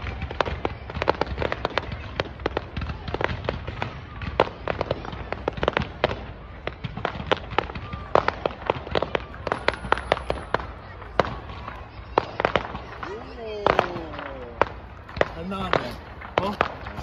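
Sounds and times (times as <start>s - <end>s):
fireworks popping and crackling: 0.0s - 17.0s
loud fireworks bangs: 0.0s - 17.0s.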